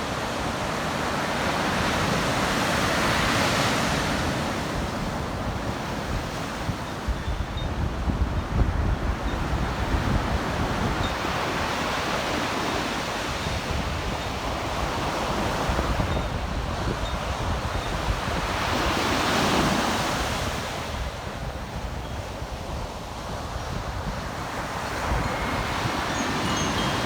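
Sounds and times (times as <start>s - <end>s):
sea surf washing onto beach: 0.0s - 7.2s, 7.9s - 27.0s
wind buffeting microphone: 0.0s - 27.0s.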